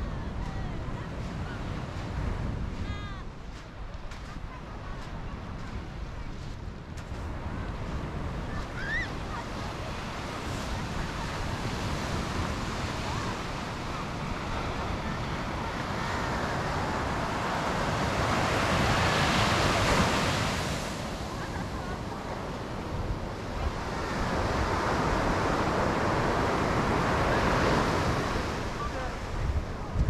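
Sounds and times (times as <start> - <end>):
surf washing up beach: 0.0 - 30.0
wind buffeting microphone: 0.0 - 30.0.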